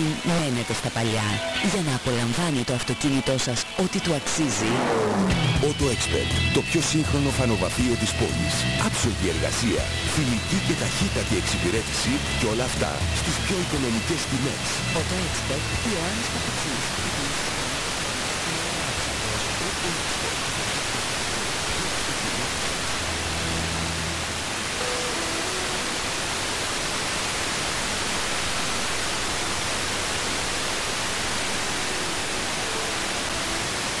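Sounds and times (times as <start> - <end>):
faint radio audio: 0.0 - 34.0
radio static hiss: 0.0 - 34.0.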